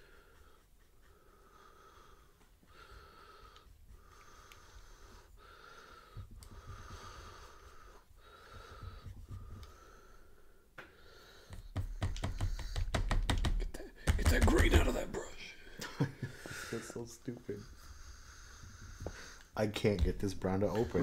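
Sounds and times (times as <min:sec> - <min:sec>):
person breathing slowly: 0:00.0 - 0:13.1, 0:15.7 - 0:19.6.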